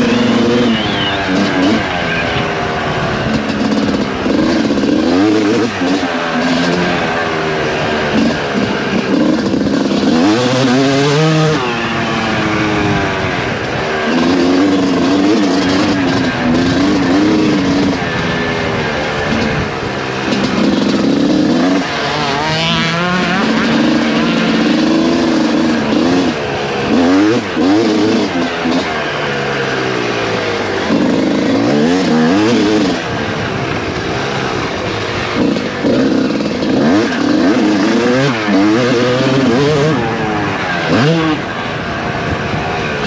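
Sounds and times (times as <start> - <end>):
motocross engine revving: 0.0 - 43.0.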